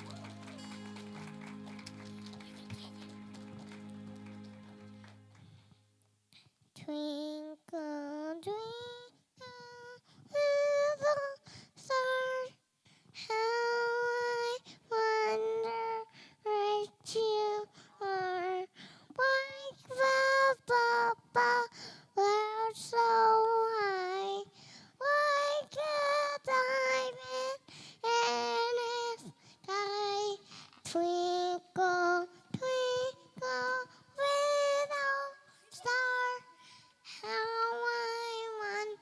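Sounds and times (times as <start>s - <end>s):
child singing: 6.7s - 12.6s, 13.2s - 39.0s.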